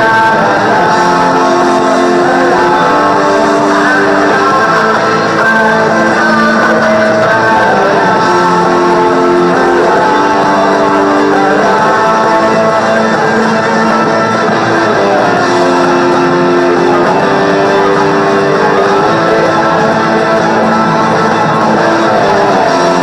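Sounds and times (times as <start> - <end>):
rock band playing: 0.0 - 23.0
strummed guitars: 0.0 - 23.0.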